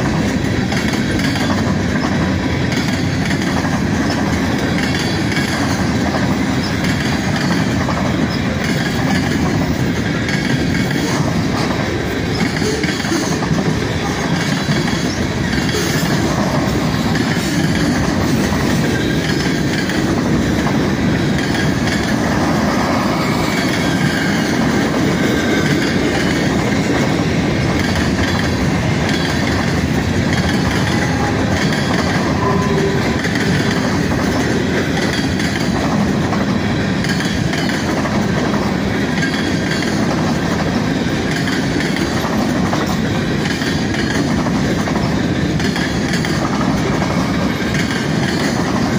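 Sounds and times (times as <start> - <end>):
freight train wheels rumbling on rails: 0.0 - 48.9
wheels clacking over rail joints: 0.0 - 48.9.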